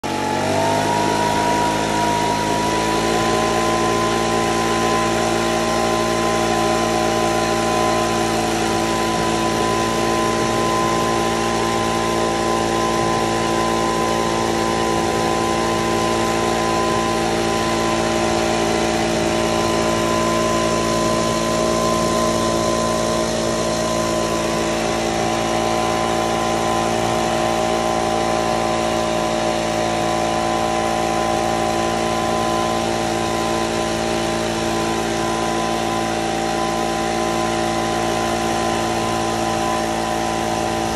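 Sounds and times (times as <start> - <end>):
blower motor whine: 0.0 - 40.9.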